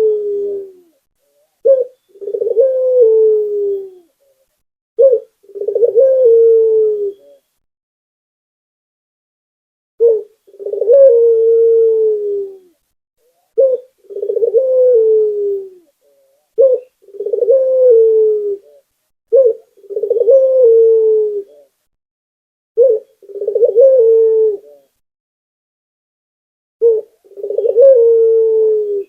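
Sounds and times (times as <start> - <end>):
dove cooing: 0.0 - 7.5, 10.0 - 21.8, 22.8 - 25.0, 26.8 - 29.0.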